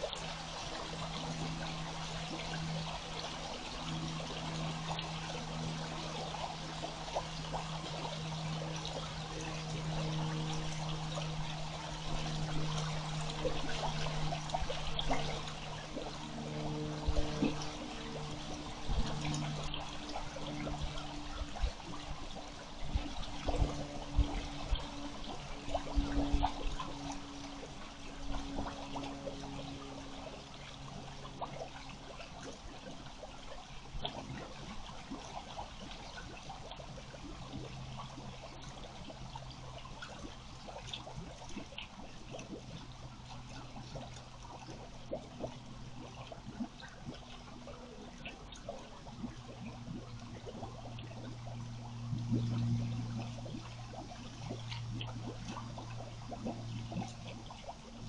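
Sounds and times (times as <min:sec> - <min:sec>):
steady low hum: 0:00.0 - 0:58.0
water running and trickling: 0:00.0 - 0:58.0.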